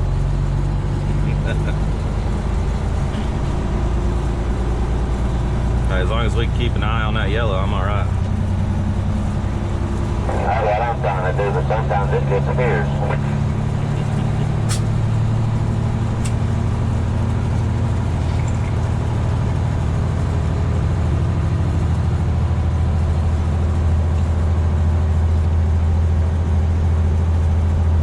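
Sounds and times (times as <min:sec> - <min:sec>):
diesel truck engine droning: 0:00.0 - 0:28.0.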